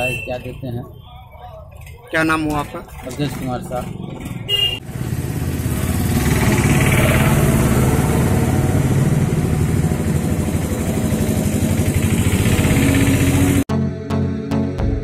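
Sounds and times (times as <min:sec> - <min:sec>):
vehicle engine idling: 0:01.0 - 0:13.6.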